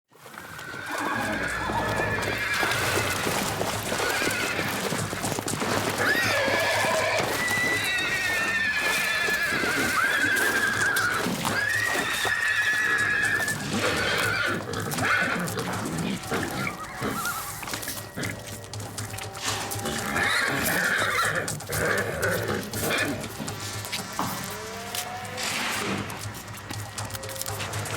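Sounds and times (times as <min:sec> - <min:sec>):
background music: 0:00.2 - 0:27.9
horses whinnying: 0:00.2 - 0:27.9.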